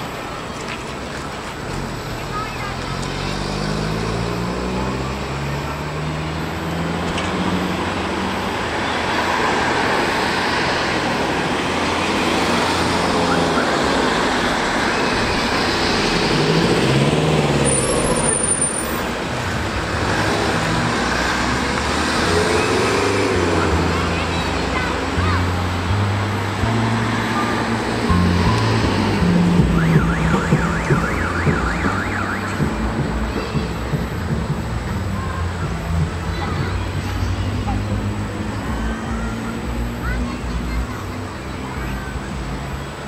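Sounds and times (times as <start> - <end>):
road traffic: 0.0 - 43.0.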